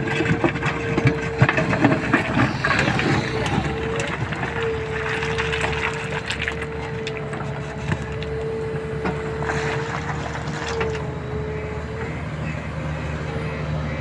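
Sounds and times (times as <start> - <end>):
diesel engine running: 0.0 - 14.0
high engine whine: 0.0 - 14.0.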